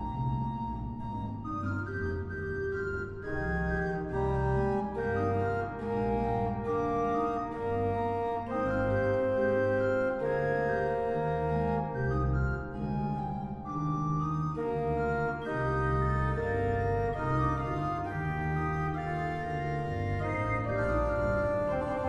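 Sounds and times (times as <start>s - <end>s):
pipe organ chords: 0.0s - 22.0s.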